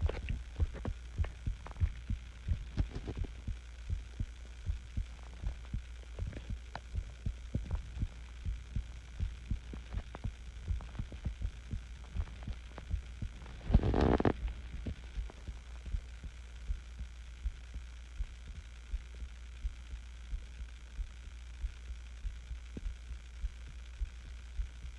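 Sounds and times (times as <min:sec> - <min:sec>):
heartbeat thumps: 0:00.0 - 0:24.9
low hum: 0:00.0 - 0:24.9.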